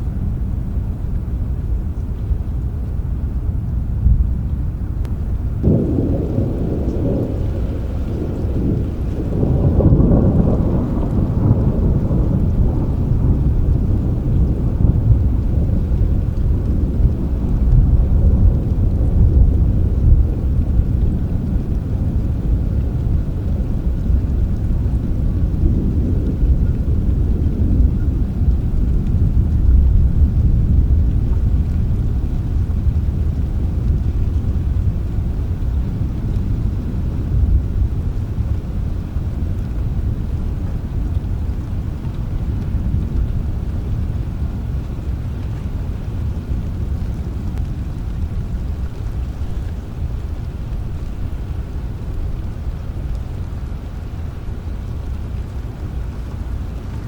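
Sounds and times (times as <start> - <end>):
rain: 0.0 - 57.0
rolling thunder: 0.0 - 57.0.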